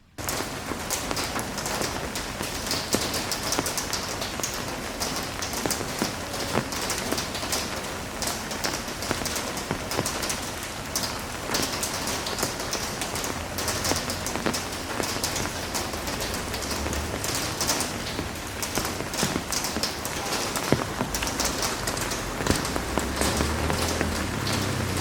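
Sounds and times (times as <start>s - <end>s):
heavy rain falling: 0.2s - 25.0s
sharp raindrop impacts: 0.2s - 25.0s.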